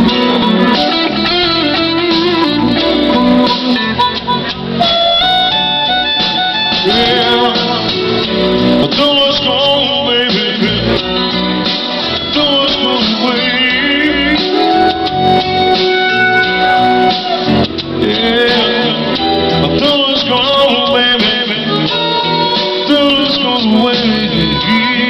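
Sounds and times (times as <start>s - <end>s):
electric guitar lead melody: 0.0s - 25.0s
live band music: 0.0s - 25.0s.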